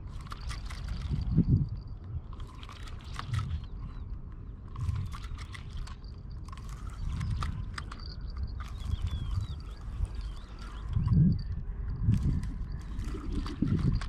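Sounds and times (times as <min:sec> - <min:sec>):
fishing tackle clicks and knocks: 0:00.1 - 0:14.0.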